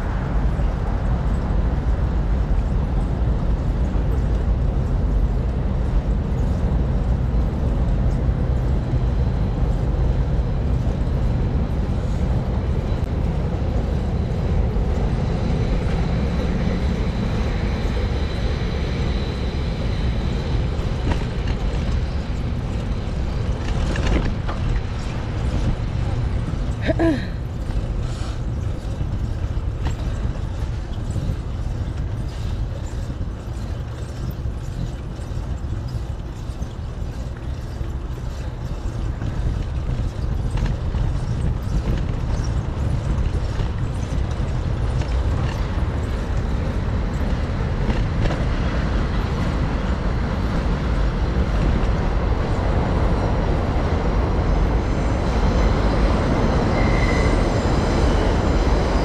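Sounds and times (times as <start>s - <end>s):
road traffic noise: 0.0s - 59.0s
wind rushing over microphone: 0.0s - 59.0s.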